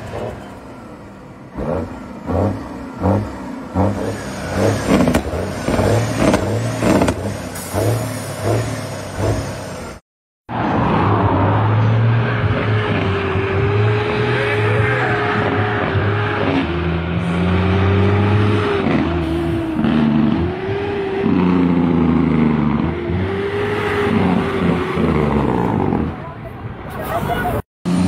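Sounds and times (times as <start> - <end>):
diesel truck engine revving: 0.0 - 26.2.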